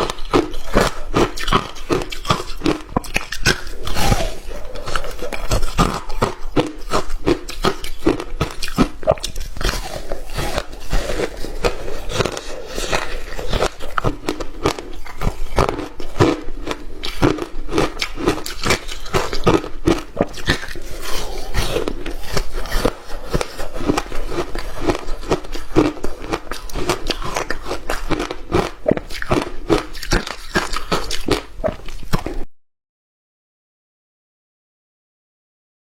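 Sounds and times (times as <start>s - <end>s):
person crunching ice: 0.0s - 32.4s.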